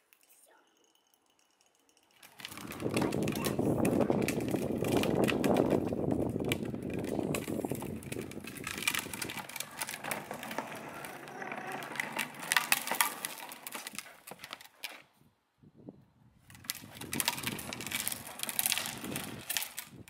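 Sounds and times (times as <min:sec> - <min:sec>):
crackles and clicks: 0:00.0 - 0:15.1, 0:16.4 - 0:20.0
plastic wheels rolling on asphalt: 0:00.4 - 0:15.2, 0:16.3 - 0:20.0.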